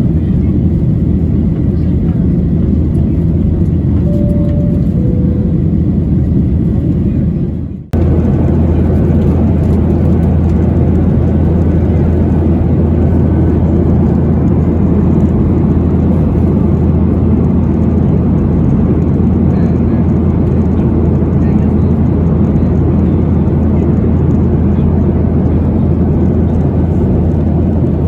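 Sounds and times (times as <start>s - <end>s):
airplane cabin engine hum: 0.0s - 28.0s.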